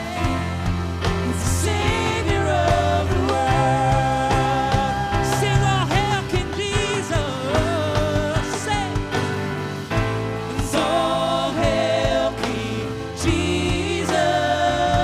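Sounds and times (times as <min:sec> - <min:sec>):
singers holding sung notes: 0:00.0 - 0:09.1, 0:10.3 - 0:15.0
band with sustained keys and bass: 0:00.0 - 0:15.0.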